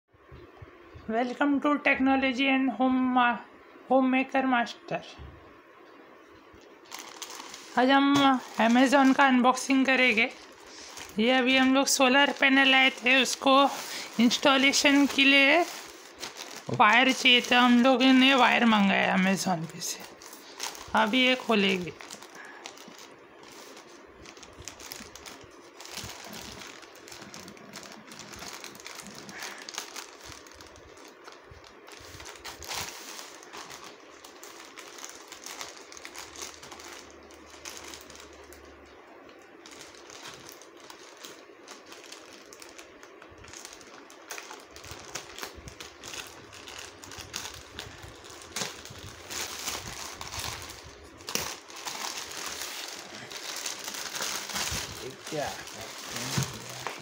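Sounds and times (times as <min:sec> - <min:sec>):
plastic mailer bag crinkling: 0:06.6 - 0:57.0.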